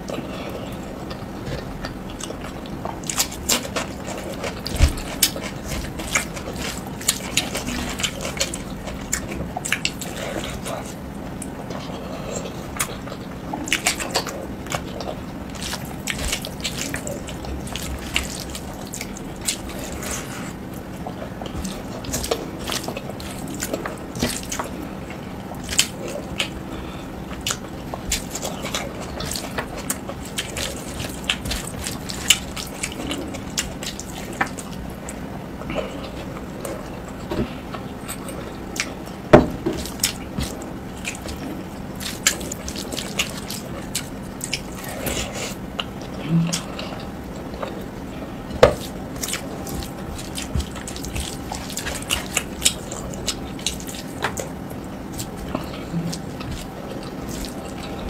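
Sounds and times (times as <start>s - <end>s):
food squelching: 0.0s - 58.0s
wet chewing and lip smacking: 0.0s - 58.0s.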